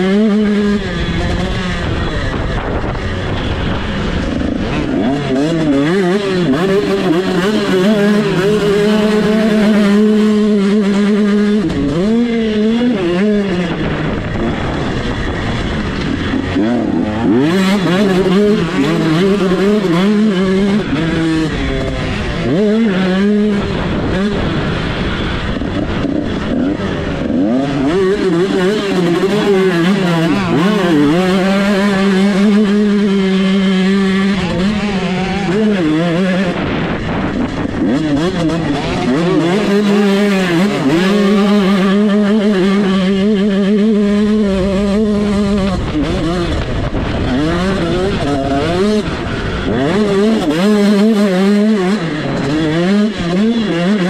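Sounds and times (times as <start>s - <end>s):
motocross engine revving high: 0.0s - 54.0s.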